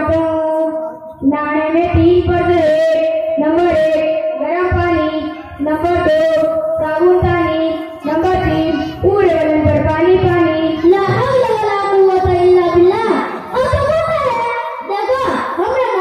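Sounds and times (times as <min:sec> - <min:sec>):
boy singing into microphone: 0:00.0 - 0:16.0.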